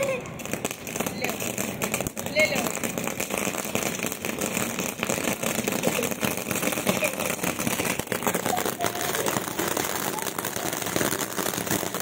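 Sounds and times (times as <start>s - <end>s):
firework sparks hissing and crackling: 0.0s - 12.0s.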